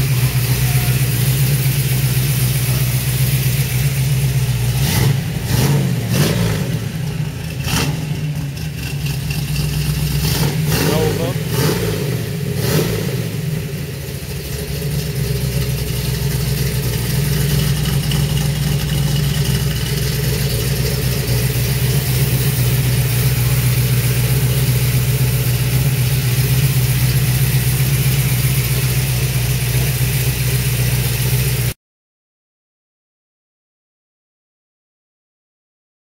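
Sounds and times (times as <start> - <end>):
car engine idling: 0.0 - 31.8.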